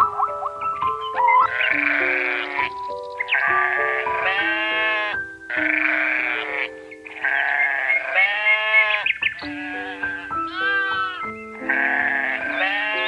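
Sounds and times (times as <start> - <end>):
keyboard background music: 0.0 - 13.0
farm animal bleating: 1.2 - 13.0.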